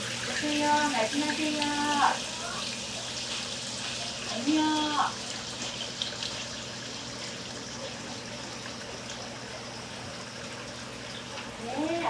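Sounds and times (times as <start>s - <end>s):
water running and trickling: 0.0s - 12.0s.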